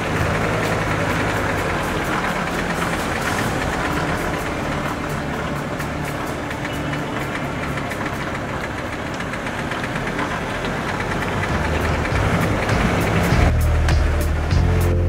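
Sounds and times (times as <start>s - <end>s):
music: 0.0s - 9.5s, 11.5s - 15.0s
tyre and road noise: 0.0s - 15.0s
van engine running: 0.0s - 15.0s.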